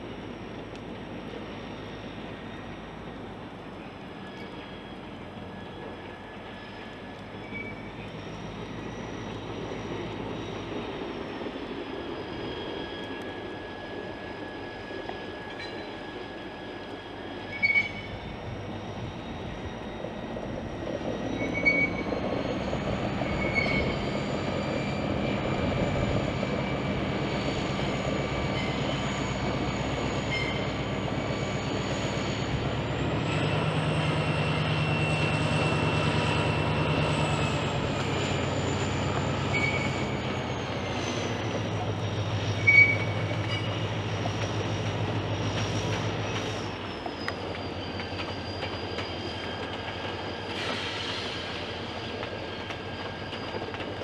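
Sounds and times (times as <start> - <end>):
diesel locomotive engine drone: 0.0 - 54.0
wheels rumbling on rail: 0.0 - 54.0
high wheel squeal: 1.4 - 54.0.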